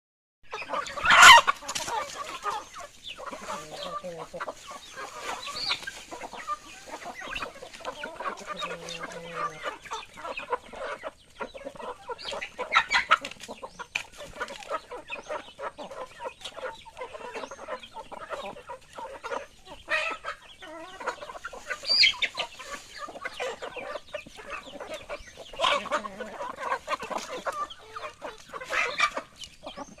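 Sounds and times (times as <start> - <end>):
chickens clucking: 0.5 - 30.0.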